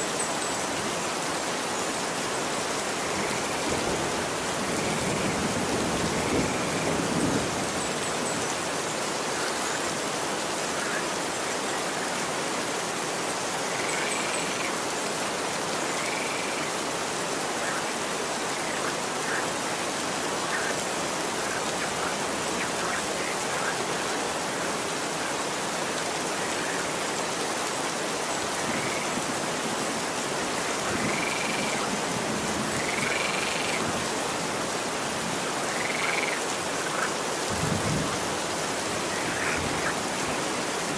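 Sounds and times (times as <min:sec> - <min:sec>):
rain falling on a street: 0:00.0 - 0:40.9.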